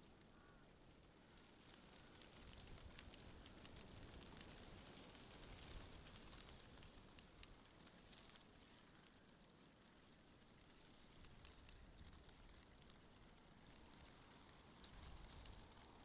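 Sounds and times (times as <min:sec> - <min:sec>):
small crackling ticks: 0:00.0 - 0:16.0.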